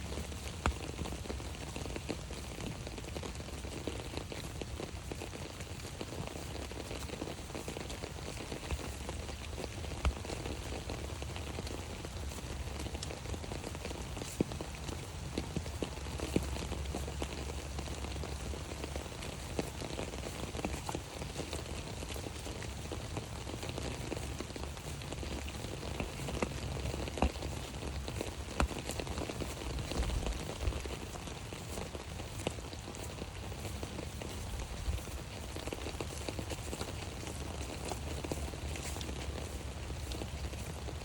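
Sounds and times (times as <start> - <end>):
rain on an umbrella: 0.0 - 41.0.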